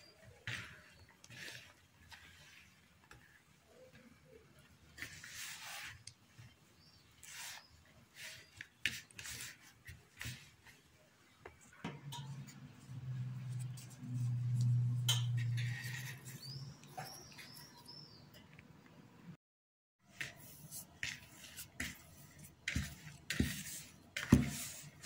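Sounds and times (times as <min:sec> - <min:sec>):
hands kneading bread dough: 0:00.0 - 0:18.2, 0:20.0 - 0:25.0.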